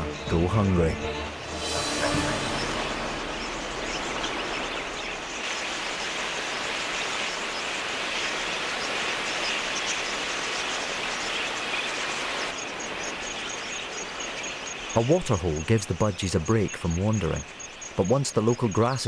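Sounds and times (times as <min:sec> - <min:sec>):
flock of budgerigars chattering: 0:03.4 - 0:19.0.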